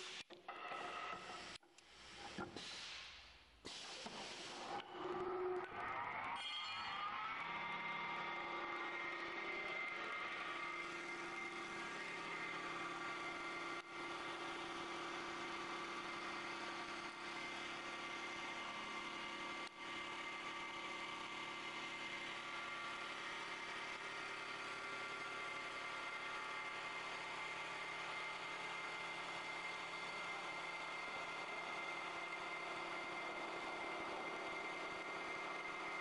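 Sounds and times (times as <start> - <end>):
wood cutting noise: 4.6 - 36.0
lathe machine whine: 4.8 - 36.0.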